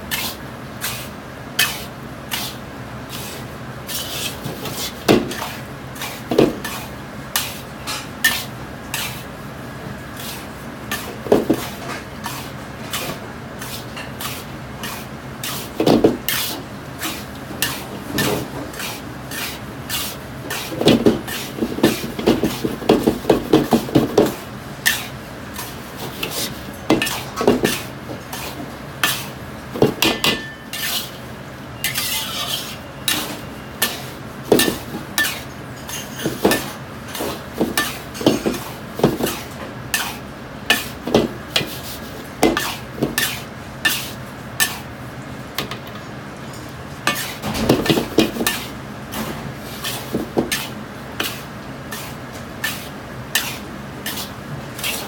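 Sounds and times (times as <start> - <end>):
ladle scraping a metal wok: 0.1 - 9.3, 10.1 - 29.4, 30.0 - 44.9, 47.1 - 55.0.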